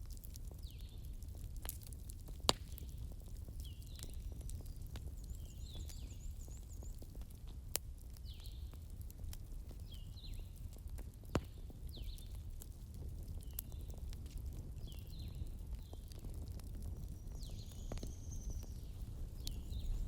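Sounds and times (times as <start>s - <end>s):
campfire burning: 0.0s - 20.0s
fire crackling pops: 0.0s - 20.0s.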